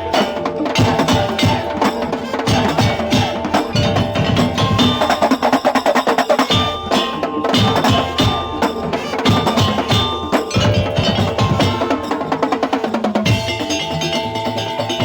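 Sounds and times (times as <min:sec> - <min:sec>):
drums: 0:00.0 - 0:15.0
ringing bell-like metal tones: 0:00.0 - 0:15.0
wooden slit drums: 0:00.0 - 0:15.0.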